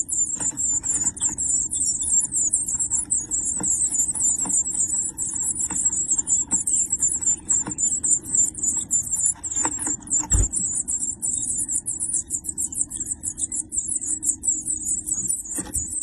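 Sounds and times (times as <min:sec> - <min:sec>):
nestlings cheeping: 0:00.0 - 0:16.0
scrabbling inside nest box: 0:00.0 - 0:16.0.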